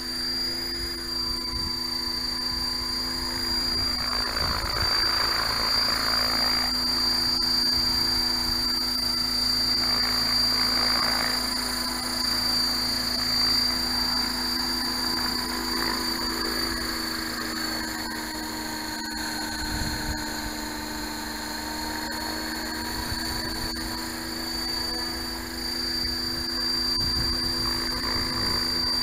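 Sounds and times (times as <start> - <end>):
model helicopter rotor whine: 0.0 - 29.0.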